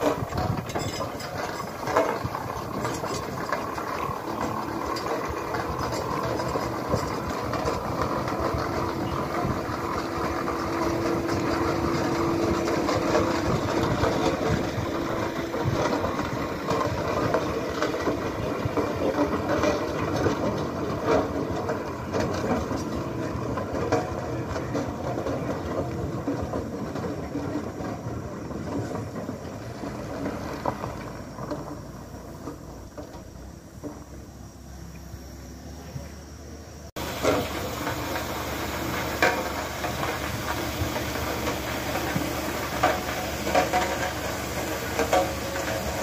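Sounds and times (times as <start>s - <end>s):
steam roller clattering: 0.0s - 34.9s, 36.5s - 46.0s.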